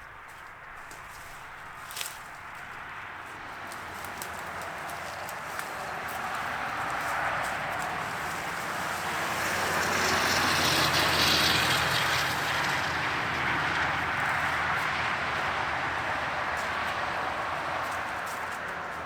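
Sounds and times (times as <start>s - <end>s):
tractor engine running: 0.7s - 19.0s.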